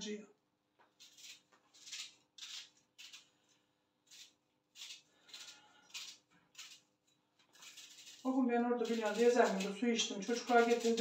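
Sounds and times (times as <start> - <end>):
knife cutting onion: 0.9 - 11.0.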